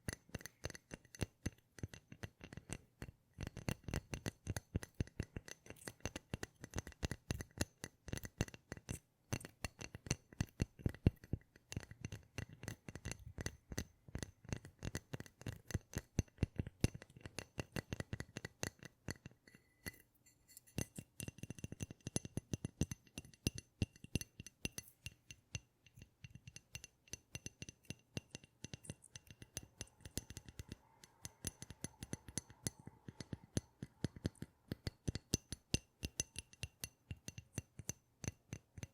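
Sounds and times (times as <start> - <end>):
rapid taps on hard objects: 0.0 - 20.1, 20.7 - 38.9.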